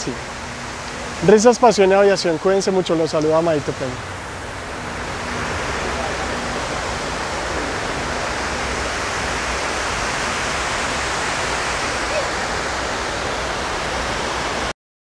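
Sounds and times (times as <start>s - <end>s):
waterfall rushing: 0.0s - 14.7s.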